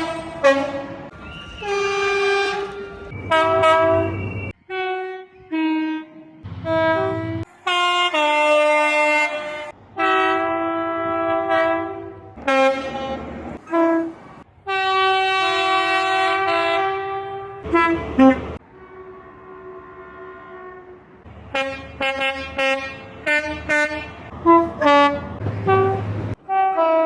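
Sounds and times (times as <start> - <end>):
train horn blasts: 0.0 - 27.0.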